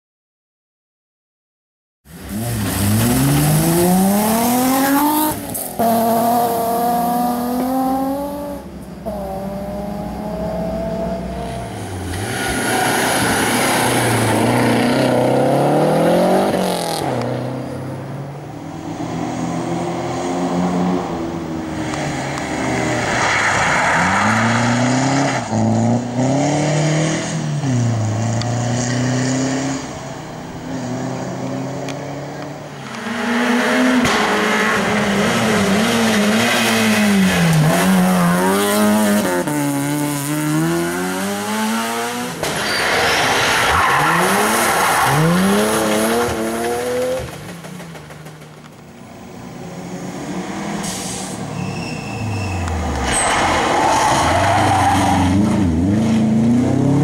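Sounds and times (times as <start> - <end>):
rally car engines revving past: 2.1 - 57.0.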